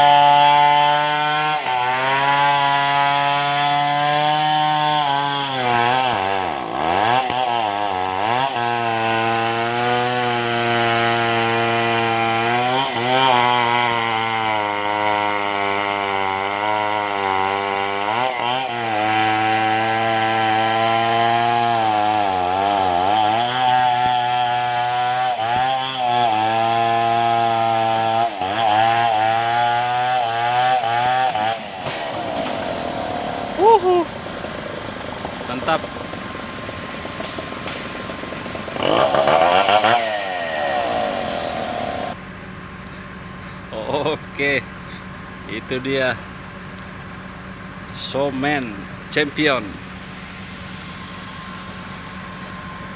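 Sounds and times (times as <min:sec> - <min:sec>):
chainsaw cutting a log: 0:00.0 - 0:42.2, 0:47.8 - 0:52.9.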